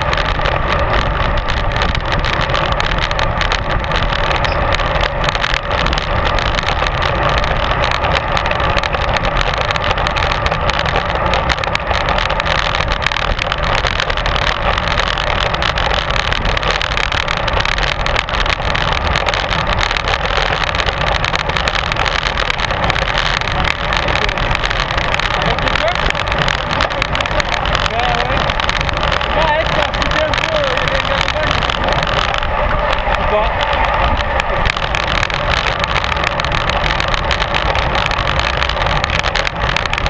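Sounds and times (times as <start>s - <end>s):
bicycle road noise: 0.0s - 40.0s
wind rushing: 0.0s - 40.0s.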